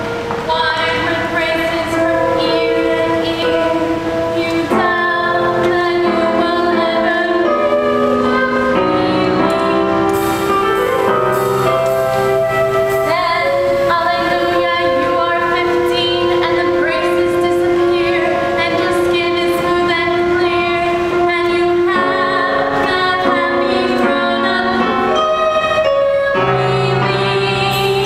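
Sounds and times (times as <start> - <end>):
held accompaniment chords: 0.0 - 28.0
woman singing: 0.4 - 10.1, 12.8 - 28.0.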